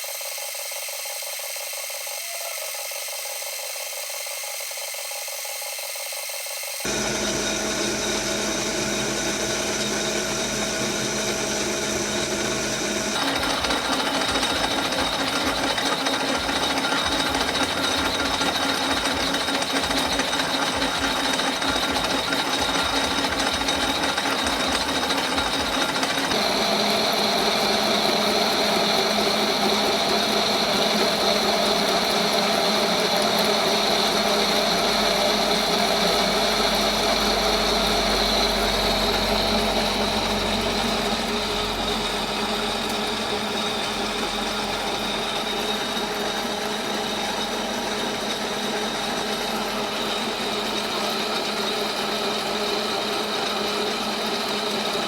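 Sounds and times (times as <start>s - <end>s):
metal lathe cutting: 0.0s - 55.0s.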